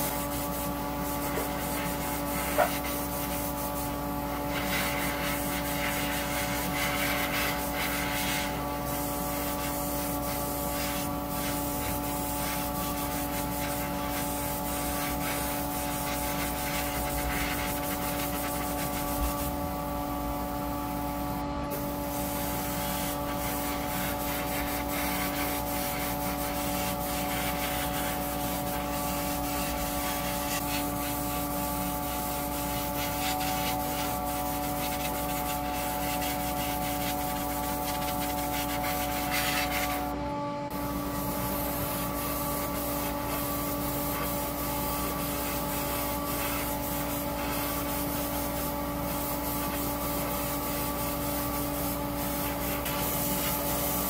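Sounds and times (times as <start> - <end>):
sanding strokes: 0.0 - 54.0
steady motor hum: 0.0 - 54.0.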